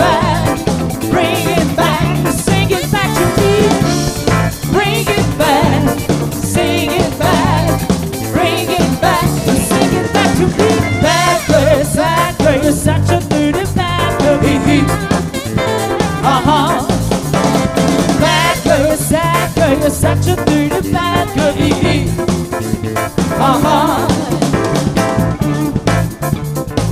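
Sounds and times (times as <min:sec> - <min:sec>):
wavering lead melody: 0:00.0 - 0:26.8
drum kit and bass groove: 0:00.0 - 0:26.9
guitar: 0:00.0 - 0:26.9.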